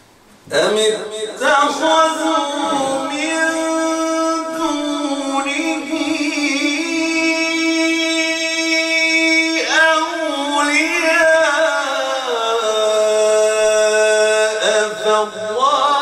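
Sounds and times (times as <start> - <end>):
man chanting melodically: 0.4 - 16.0.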